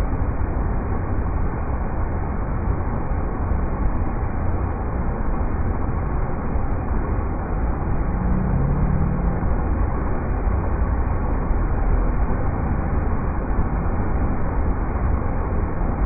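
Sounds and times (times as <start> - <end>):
deep rumble of water: 0.0 - 16.0.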